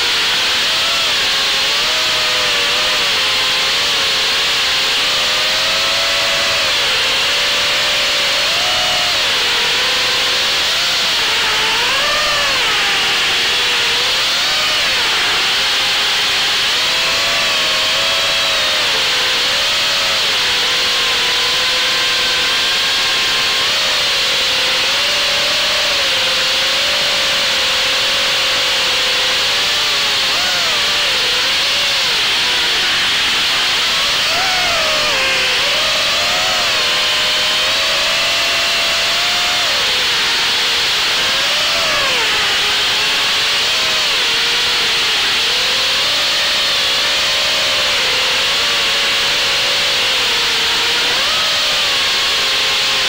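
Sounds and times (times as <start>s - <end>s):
quadcopter propellers whining: 0.0s - 53.0s.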